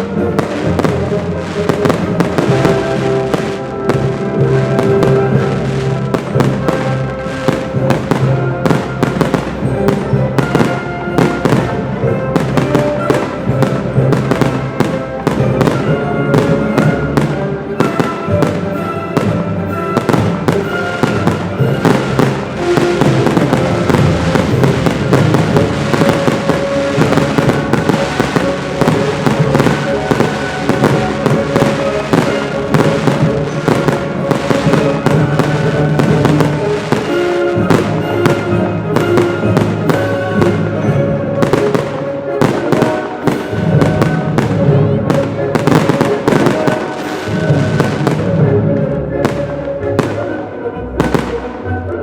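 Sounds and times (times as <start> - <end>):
fireworks bangs and crackles: 0.0 - 51.6
music: 0.0 - 52.0.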